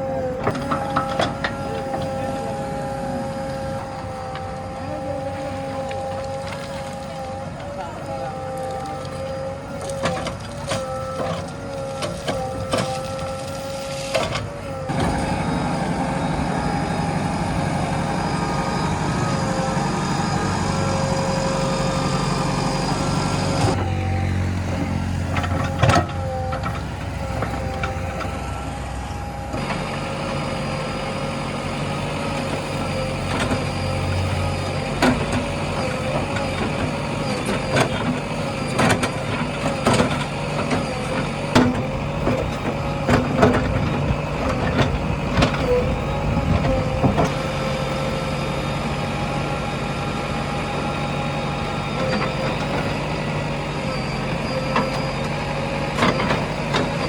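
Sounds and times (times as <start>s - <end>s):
diesel engine running: 0.0s - 57.0s
steady whine: 0.0s - 57.0s.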